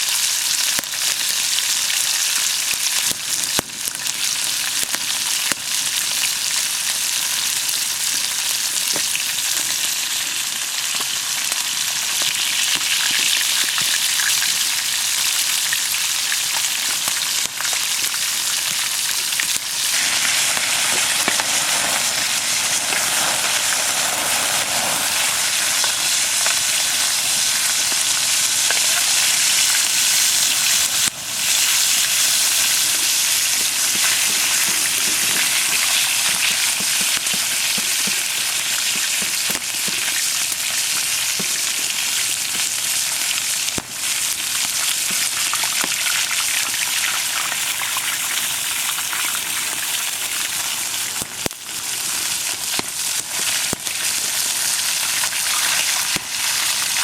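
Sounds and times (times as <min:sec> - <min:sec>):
food sizzling while frying: 0:00.0 - 0:57.0.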